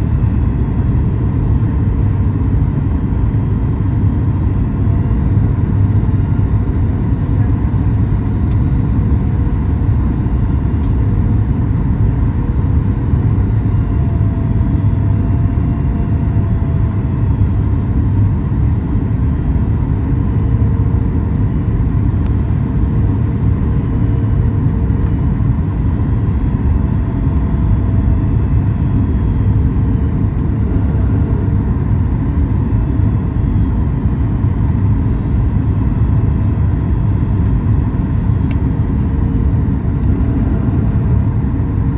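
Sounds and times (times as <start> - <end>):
airplane cabin rumble: 0.0 - 41.9.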